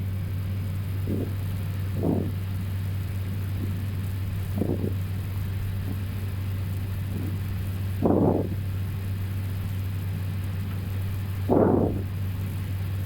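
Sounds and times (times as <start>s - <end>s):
cockpit low hum: 0.0s - 13.0s.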